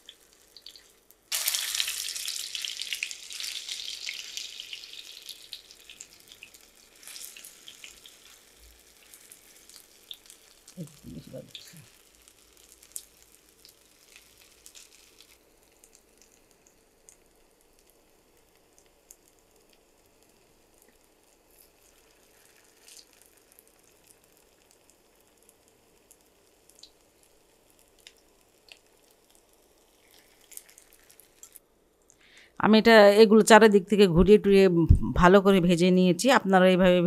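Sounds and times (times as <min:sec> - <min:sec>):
food sizzling in a pan: 0:00.0 - 0:31.6.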